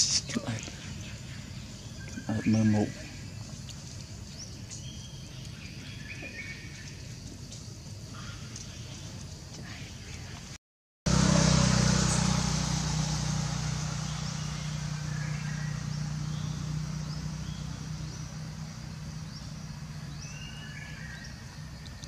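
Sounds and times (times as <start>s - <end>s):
motor engine hum: 0.0s - 9.0s, 11.1s - 22.0s.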